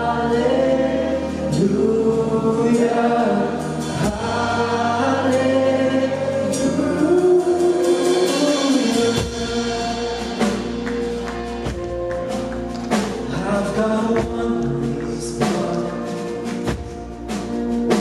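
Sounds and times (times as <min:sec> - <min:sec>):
band accompaniment: 0:00.0 - 0:18.0
congregation singing: 0:00.0 - 0:18.0.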